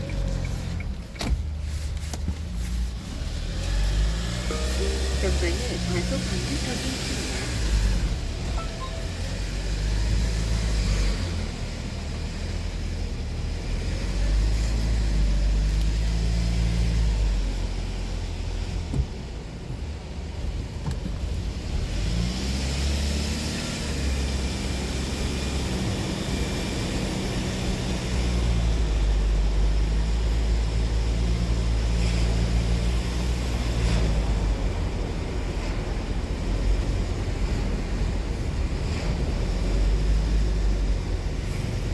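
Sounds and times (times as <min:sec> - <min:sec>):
road noise: 0:00.0 - 0:41.9.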